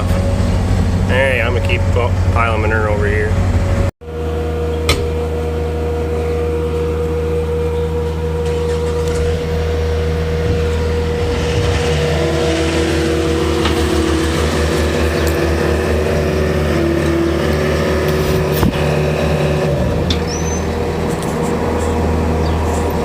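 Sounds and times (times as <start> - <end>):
constant whine: 0.0 - 23.0
heavy machinery engine running: 0.0 - 23.0
lower whine: 0.0 - 23.0.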